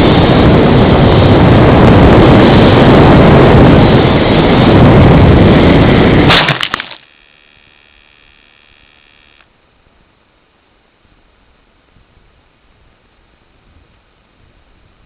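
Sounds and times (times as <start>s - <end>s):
faint steady whine: 0.0s - 15.0s
propeller engine and wind rush: 0.0s - 15.0s.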